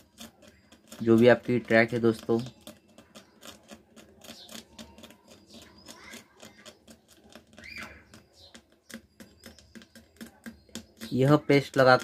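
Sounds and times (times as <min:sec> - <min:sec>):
blade scratching circuit board: 0:00.0 - 0:12.0.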